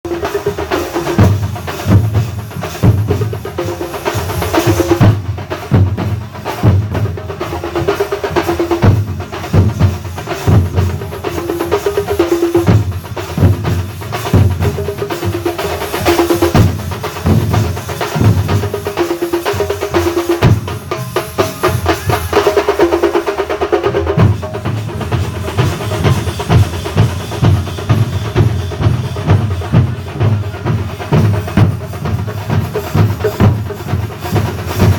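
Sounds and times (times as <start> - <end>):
fast drumming: 0.0 - 34.9
melody over drums: 0.1 - 34.9.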